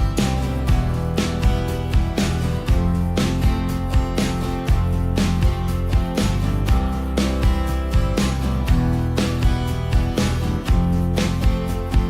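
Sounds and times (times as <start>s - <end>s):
country music with strummed guitar: 0.0s - 12.0s.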